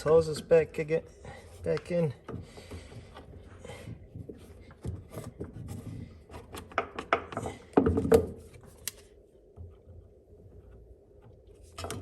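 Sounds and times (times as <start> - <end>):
hands clicking and knocking hoses: 0.0 - 12.0.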